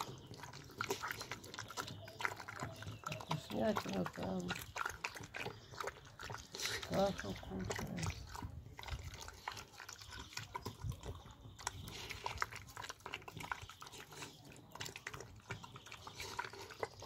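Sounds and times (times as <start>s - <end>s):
dog eating wet food: 0.0s - 17.0s.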